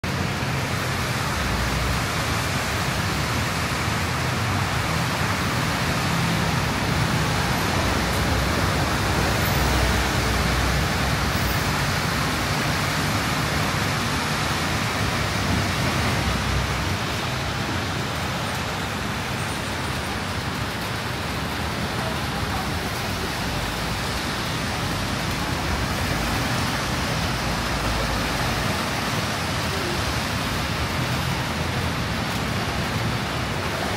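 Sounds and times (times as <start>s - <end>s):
heavy rain pouring: 0.0s - 33.9s
road traffic rumble: 0.0s - 33.9s.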